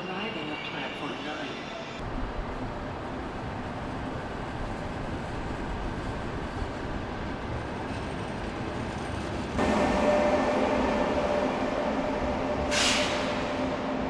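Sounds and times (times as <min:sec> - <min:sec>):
train hum with steady tones: 0:00.0 - 0:14.0
train rumble: 0:00.0 - 0:14.0.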